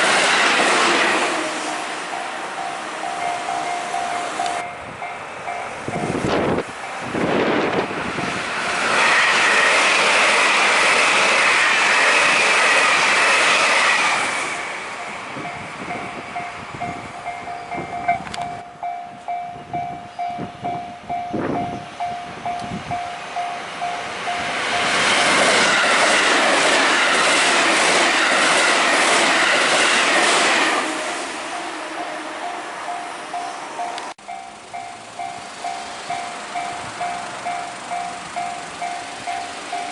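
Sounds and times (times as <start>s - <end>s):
electric trains passing: 0.0s - 39.9s.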